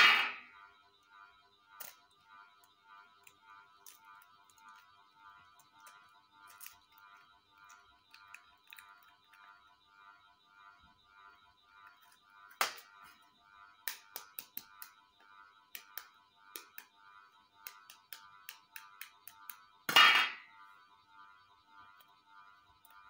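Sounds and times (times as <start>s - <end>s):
quiet background music: 0.0s - 23.0s.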